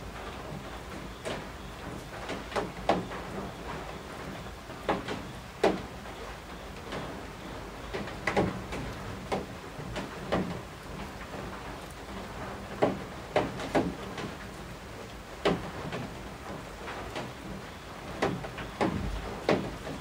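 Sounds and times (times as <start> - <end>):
heavy raindrops plinking: 0.0 - 20.0
steady hiss of rain: 0.0 - 20.0.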